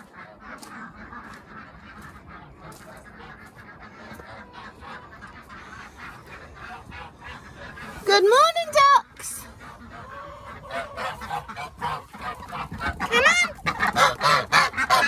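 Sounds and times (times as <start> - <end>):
ducks and geese calling: 0.0 - 15.0.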